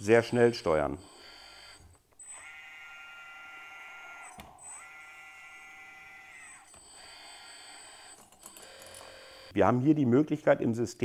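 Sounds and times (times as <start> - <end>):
hydraulic pump motor whining: 0.0 - 9.5.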